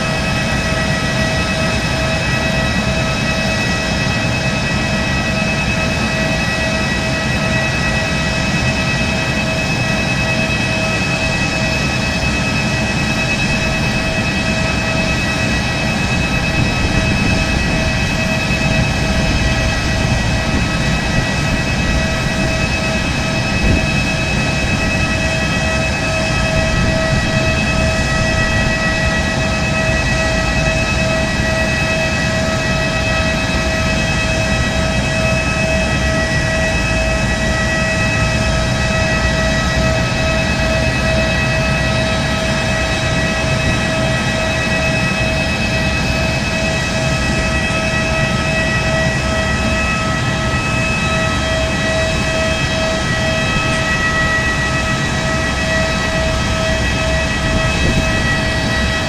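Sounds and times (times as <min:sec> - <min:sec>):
jet engine whining: 0:00.0 - 0:59.0.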